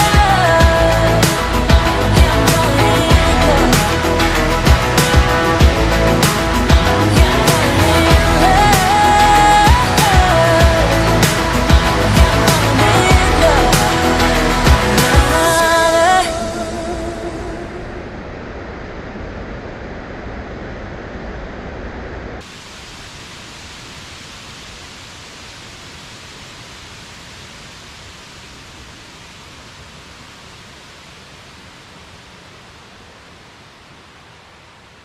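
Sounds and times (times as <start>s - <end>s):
waterfall rushing: 0.0s - 18.1s, 22.4s - 35.0s.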